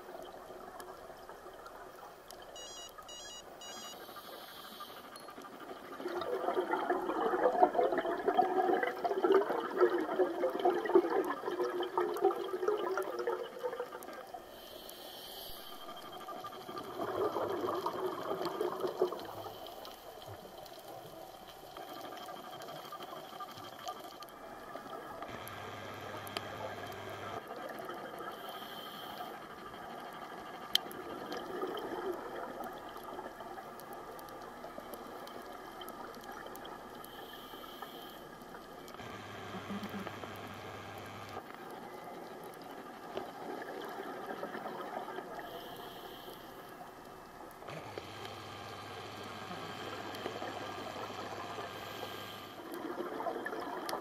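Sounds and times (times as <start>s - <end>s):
steady underwater hiss: 3.5s - 54.0s
underwater exhaled bubbles: 5.0s - 14.8s, 15.5s - 54.0s.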